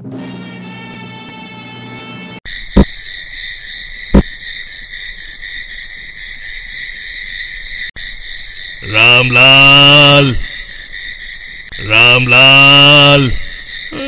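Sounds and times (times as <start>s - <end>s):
crickets chirping: 2.5s - 14.0s.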